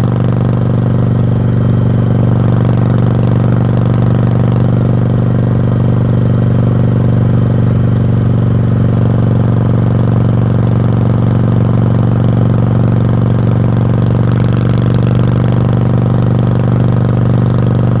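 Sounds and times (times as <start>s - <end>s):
motorcycle exhaust running: 0.0s - 18.0s.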